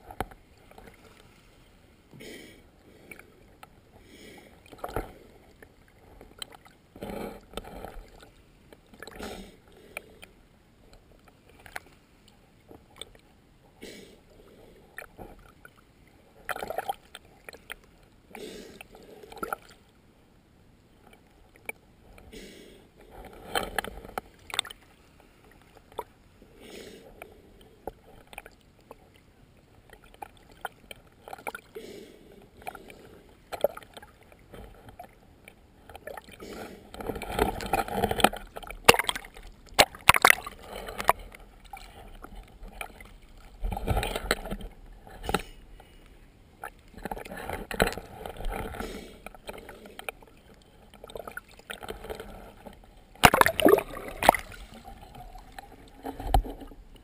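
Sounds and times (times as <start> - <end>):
water sloshing and lapping: 0.0 - 20.0, 20.9 - 57.0.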